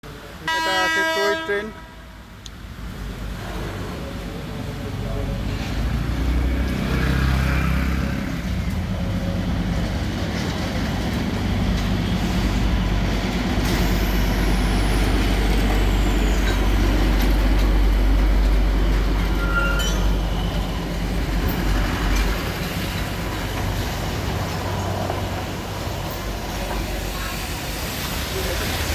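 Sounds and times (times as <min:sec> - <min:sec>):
train engine rumble: 0:00.0 - 0:28.9.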